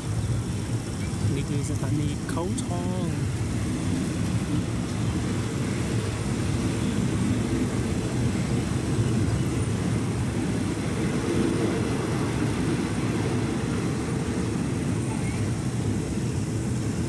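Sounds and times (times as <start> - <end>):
passenger train rumbling: 0.0 - 17.0.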